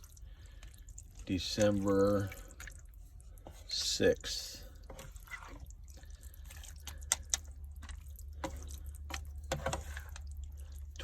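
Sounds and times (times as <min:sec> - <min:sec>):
pot of stew bubbling: 0:00.0 - 0:11.0.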